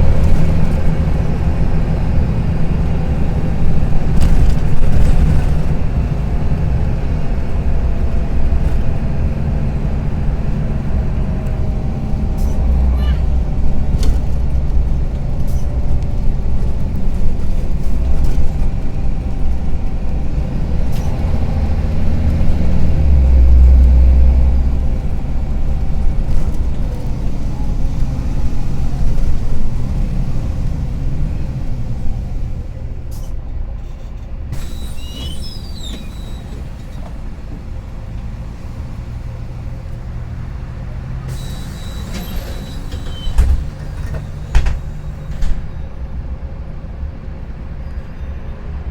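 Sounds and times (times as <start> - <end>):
bus engine rattling: 0.0 - 48.9.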